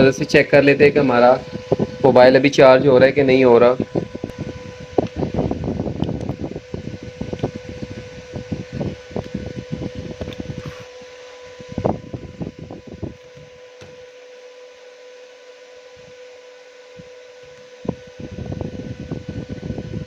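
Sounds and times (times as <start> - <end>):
air gusts on microphone: 0.0 - 14.0, 17.8 - 20.0
electric fan humming: 0.0 - 20.0.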